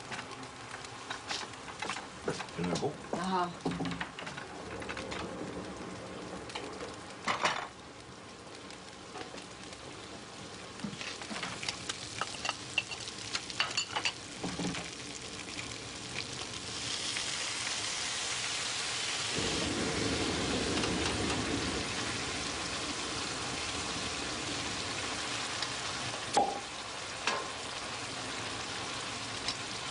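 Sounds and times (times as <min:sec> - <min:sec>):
food sizzling in pans: 0:00.0 - 0:29.9.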